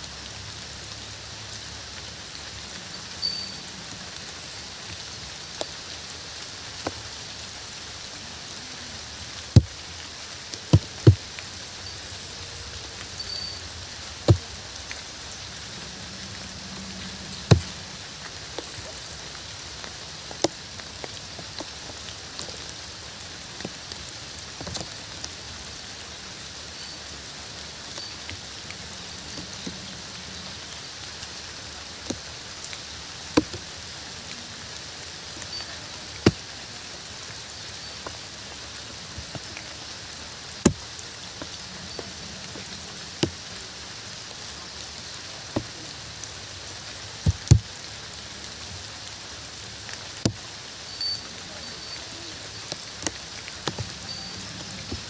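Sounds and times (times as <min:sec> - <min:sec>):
heavy raindrops tapping: 0:00.0 - 0:55.0
steady rainfall: 0:00.0 - 0:55.0.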